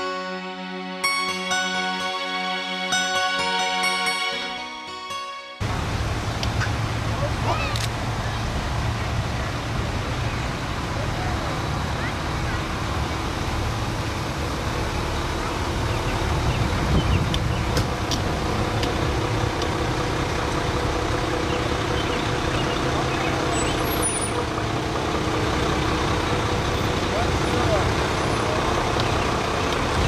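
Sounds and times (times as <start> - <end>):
diesel truck engine rumble: 5.1 - 30.0.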